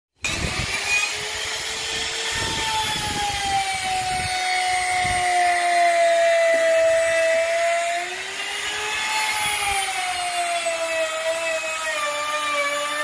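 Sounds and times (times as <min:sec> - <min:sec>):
router whining: 0:00.2 - 0:13.0.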